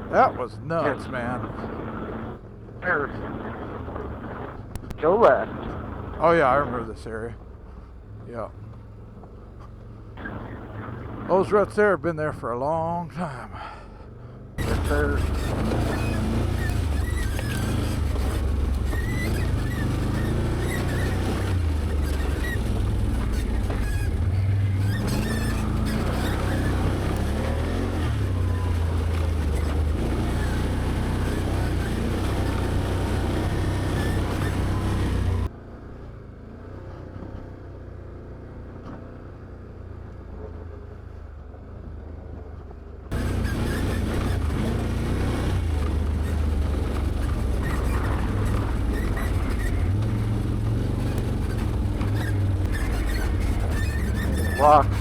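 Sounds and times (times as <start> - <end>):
atv engine running under load: 0.0 - 55.0.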